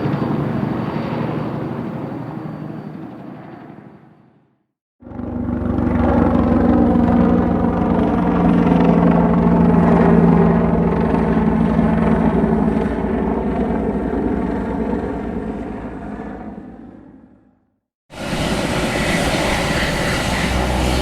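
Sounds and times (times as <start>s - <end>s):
helicopter rotor chopping: 0.0s - 4.1s, 5.0s - 16.7s, 18.1s - 21.0s.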